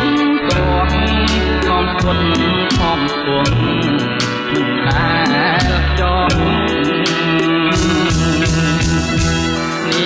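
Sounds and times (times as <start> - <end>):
bass: 0.0 - 10.0
guitar melody: 0.0 - 10.0.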